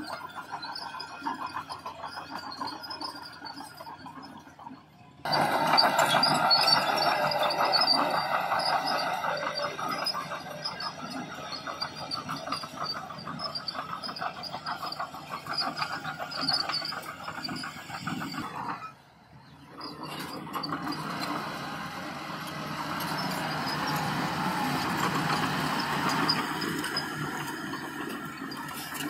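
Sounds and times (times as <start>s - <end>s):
dozer engine running: 0.0s - 29.0s
steel tracks clanking: 5.2s - 29.0s.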